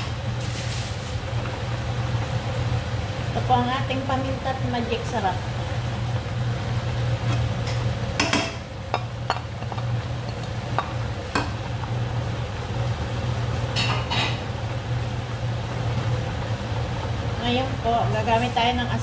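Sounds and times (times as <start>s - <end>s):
meat sizzling: 0.0s - 17.5s.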